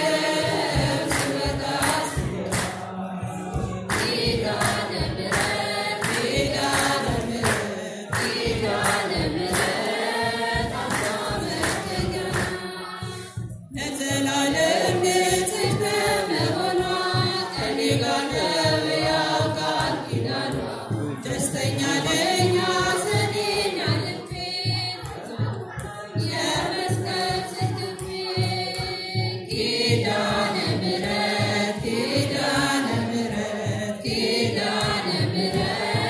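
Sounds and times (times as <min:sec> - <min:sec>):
choir singing a hymn: 0:00.0 - 0:36.0
regular rhythmic strokes: 0:00.0 - 0:36.0.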